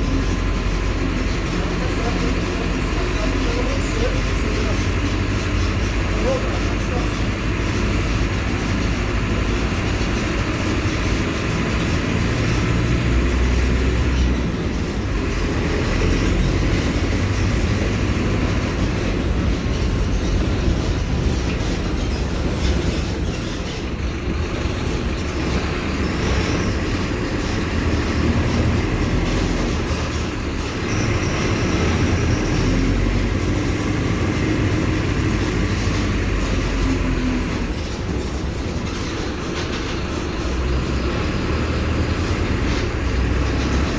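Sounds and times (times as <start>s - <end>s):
bus diesel engine rumble: 0.0s - 43.9s.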